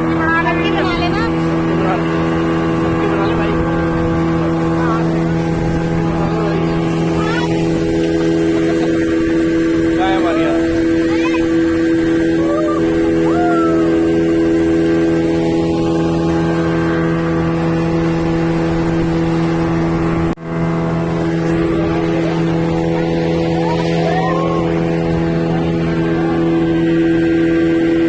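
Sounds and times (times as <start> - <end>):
motorboat engine droning: 0.0 - 28.0.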